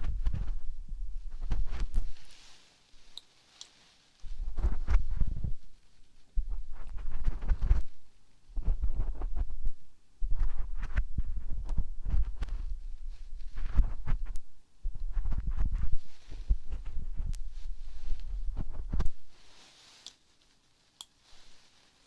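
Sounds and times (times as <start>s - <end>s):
scratchy rubbing and crackling: 0.0s - 22.0s.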